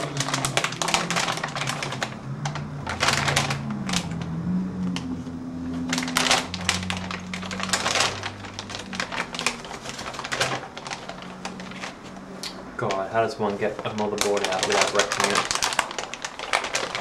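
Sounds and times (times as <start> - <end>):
packaging crackling: 0.0 - 17.0.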